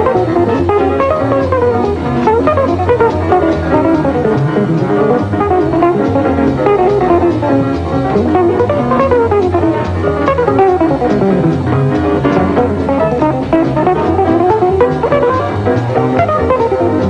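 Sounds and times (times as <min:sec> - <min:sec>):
instrumental music with guitar and bass: 0:00.0 - 0:17.0.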